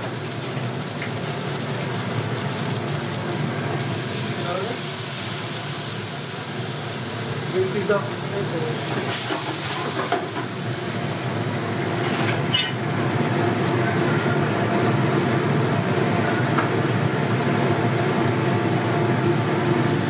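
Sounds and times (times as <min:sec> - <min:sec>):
curry sizzling in a pan: 0:00.0 - 0:20.0.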